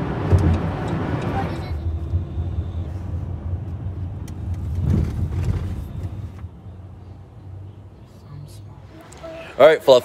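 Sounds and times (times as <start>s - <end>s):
car engine and road hum: 0.0s - 10.0s.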